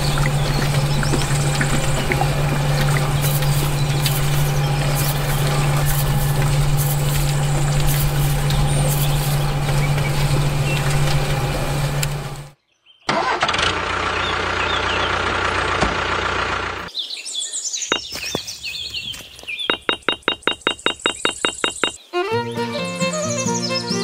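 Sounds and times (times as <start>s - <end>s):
birds chirping: 0.0s - 13.1s, 16.9s - 24.0s.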